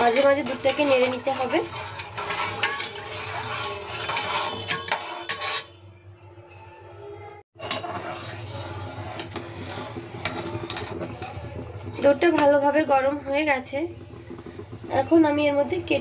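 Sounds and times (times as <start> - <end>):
ladle scraping a metal pot: 0.0 - 6.1, 7.6 - 14.9.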